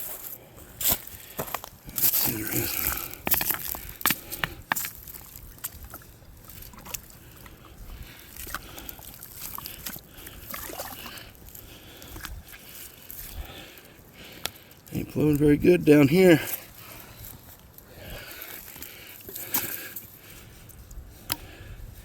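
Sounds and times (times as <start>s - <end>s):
water trickling from hose: 1.9s - 21.0s.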